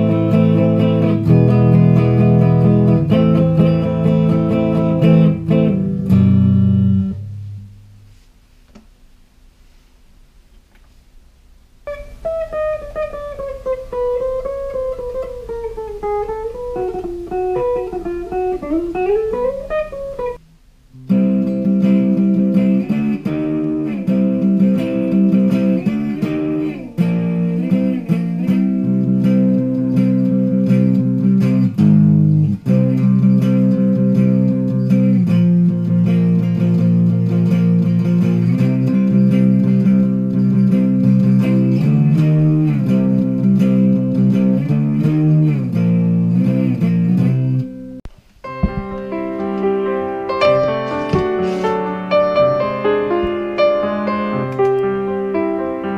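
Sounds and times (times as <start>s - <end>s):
electric guitar chords: 0.0s - 8.1s, 11.9s - 55.9s
electric guitar melody with bends: 0.0s - 8.2s, 11.9s - 55.9s.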